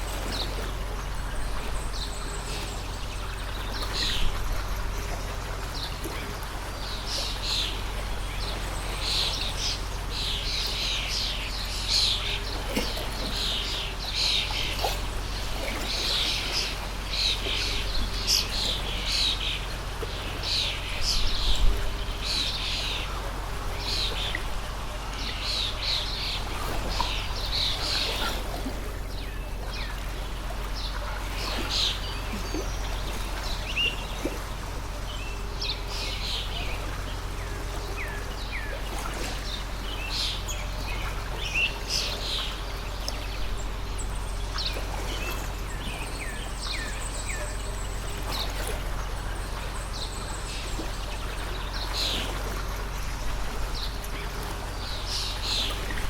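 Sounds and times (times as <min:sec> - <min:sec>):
flowing stream: 0:00.0 - 0:56.0
small birds chirping: 0:00.0 - 0:56.0.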